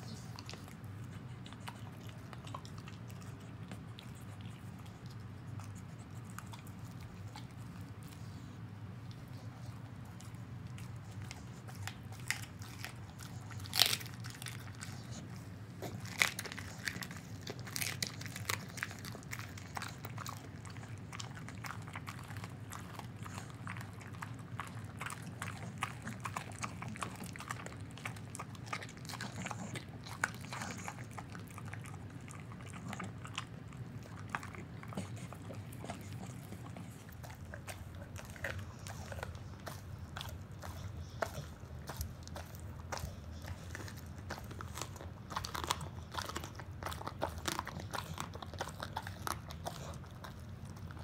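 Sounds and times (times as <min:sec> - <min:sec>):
dog chewing bones: 0:00.0 - 0:51.0.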